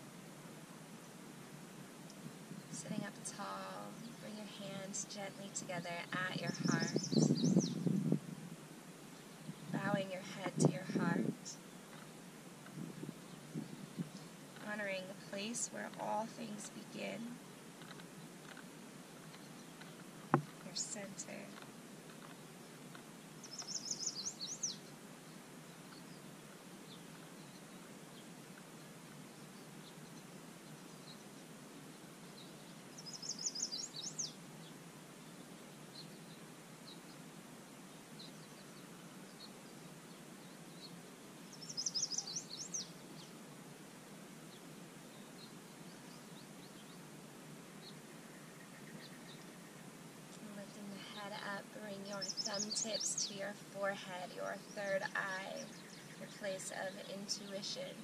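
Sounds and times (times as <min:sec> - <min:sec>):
faint background hiss: 0:00.0 - 0:58.0
songbird singing: 0:00.9 - 0:58.0.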